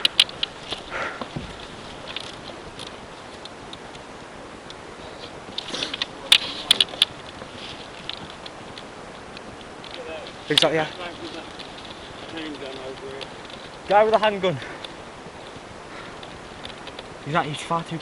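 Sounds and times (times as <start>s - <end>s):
faint outdoor background noise: 0.0s - 18.0s
sharp clicks and crackles: 0.0s - 18.0s.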